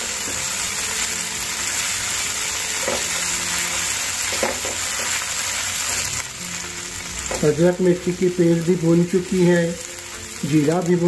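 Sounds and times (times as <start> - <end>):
frying hiss: 0.0 - 11.0.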